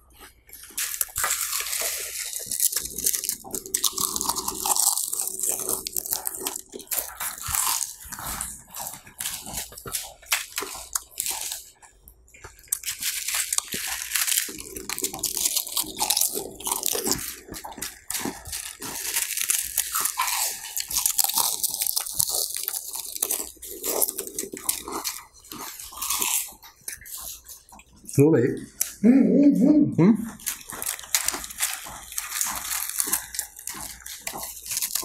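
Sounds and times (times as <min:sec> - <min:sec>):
potato chips crunching: 0:00.0 - 0:29.0, 0:30.3 - 0:35.0.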